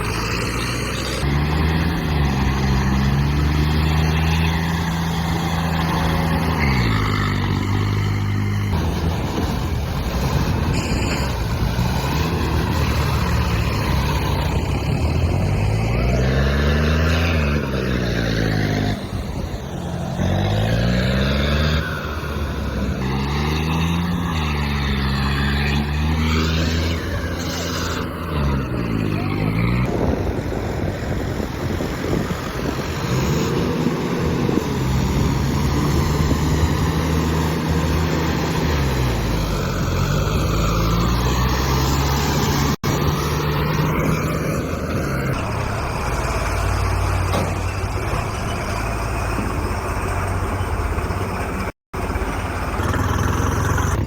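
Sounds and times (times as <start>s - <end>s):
heavy diesel engine revving: 0.0s - 54.0s.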